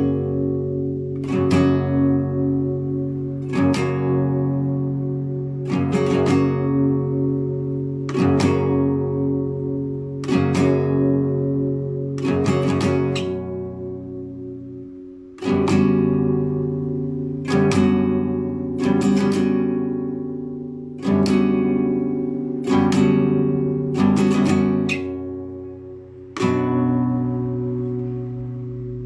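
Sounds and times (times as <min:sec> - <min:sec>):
solo guitar chords ringing: 0:00.0 - 0:29.0.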